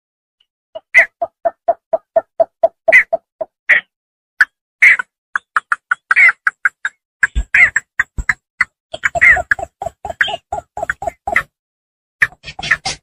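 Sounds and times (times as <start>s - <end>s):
bittern clucking calls: 0.8s - 11.6s, 12.2s - 13.0s.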